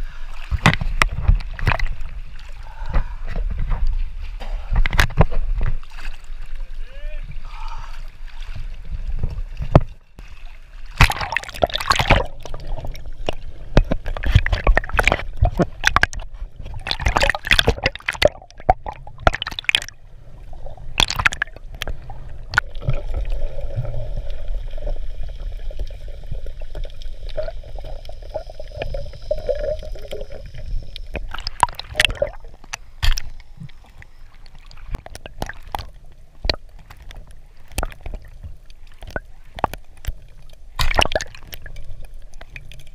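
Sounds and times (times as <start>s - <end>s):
water sloshing and gurgling: 0.0s - 42.9s.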